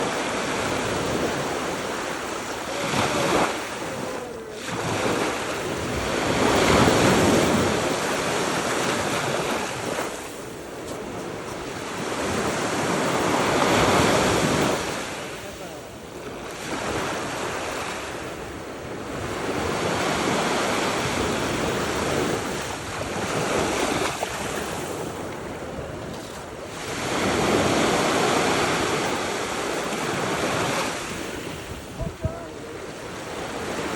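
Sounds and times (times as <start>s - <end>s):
surf breaking on beach: 0.0s - 33.9s
wind buffeting microphone: 0.0s - 33.9s.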